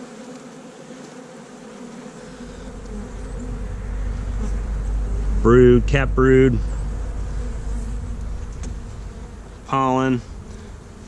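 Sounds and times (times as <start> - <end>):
honey bees buzzing: 0.0 - 11.0
low rumble: 2.1 - 11.0.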